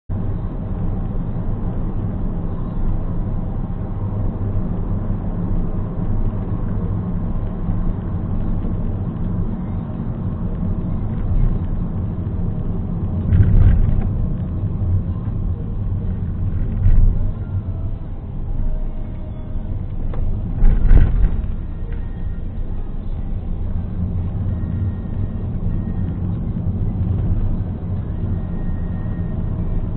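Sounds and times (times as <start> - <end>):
car interior driving rumble: 0.1 - 29.9.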